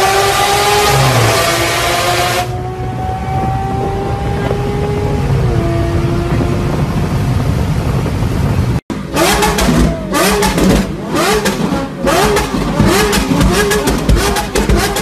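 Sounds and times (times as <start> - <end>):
car engine revving: 0.0 - 15.0
exhaust bangs: 0.0 - 15.0.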